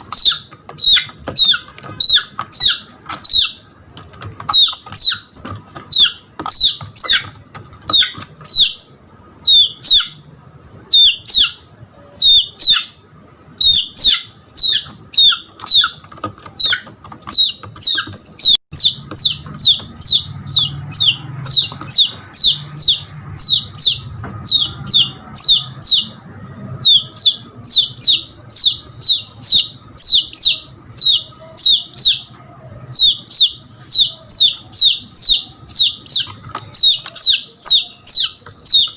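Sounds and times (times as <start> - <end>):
chick peeping shrilly: 0.0 - 38.9.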